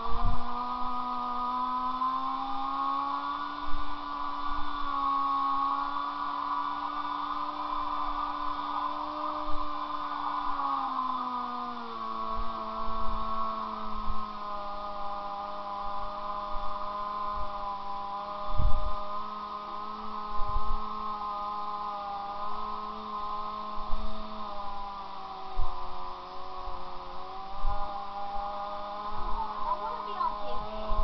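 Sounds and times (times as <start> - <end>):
motorcycle engine droning: 0.0 - 31.0.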